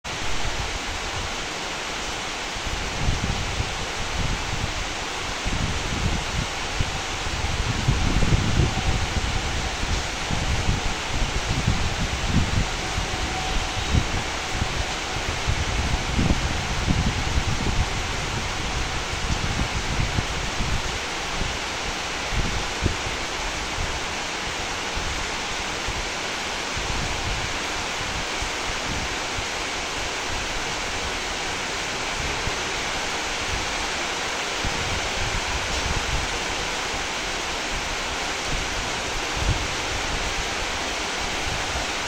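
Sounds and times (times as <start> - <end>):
heavy rain on leaves: 0.0 - 42.0
wind buffeting microphone: 0.1 - 42.0.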